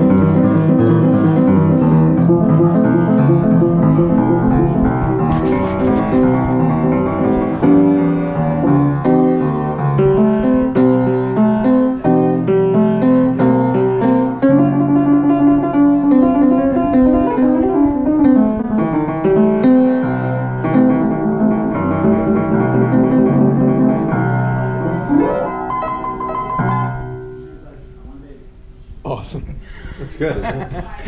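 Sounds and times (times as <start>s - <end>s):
piano melody over chords: 0.0s - 28.6s.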